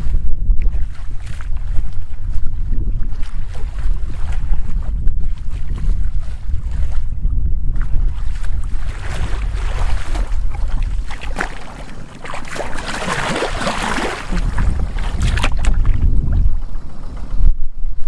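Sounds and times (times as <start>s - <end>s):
wading through muddy water: 0.0s - 17.4s
wind on microphone: 0.0s - 18.0s.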